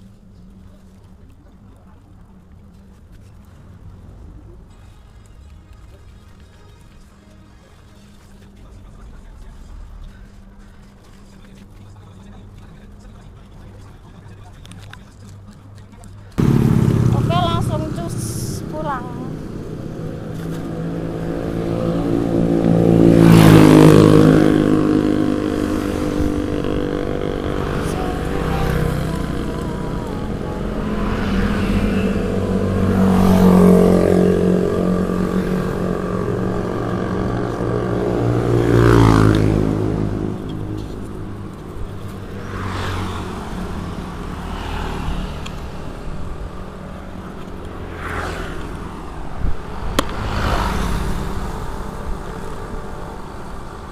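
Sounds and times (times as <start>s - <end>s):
vehicle engines in traffic: 0.0s - 53.9s.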